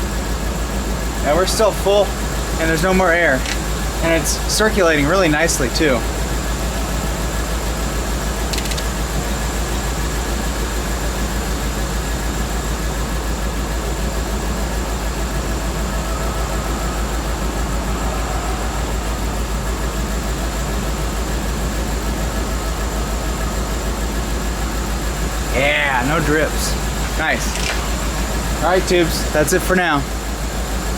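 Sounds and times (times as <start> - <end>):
car engine idling: 0.0 - 30.9
power steering pump running: 0.0 - 30.9.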